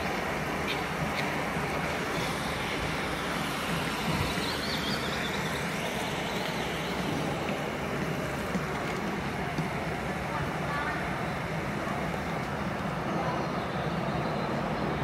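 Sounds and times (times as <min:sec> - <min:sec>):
airport terminal background noise: 0:00.0 - 0:15.0.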